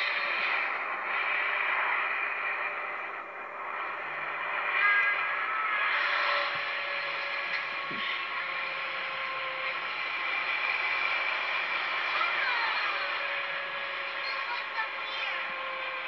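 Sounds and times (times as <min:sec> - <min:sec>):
faint steady whining tones: 0:00.0 - 0:16.0
vehicle running noise from inside: 0:00.0 - 0:16.0.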